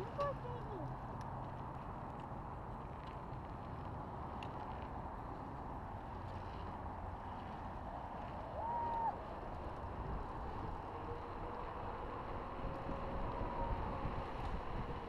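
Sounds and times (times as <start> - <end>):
bicycle tyres rolling on asphalt: 0.0 - 15.0
wind buffeting camera: 0.0 - 15.0.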